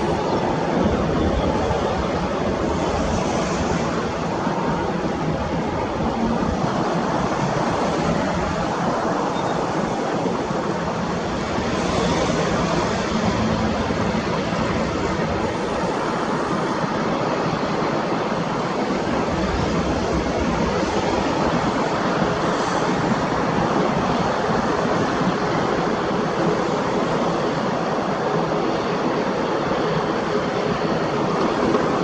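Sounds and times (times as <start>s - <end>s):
turboprop engines rumbling: 0.0s - 32.0s.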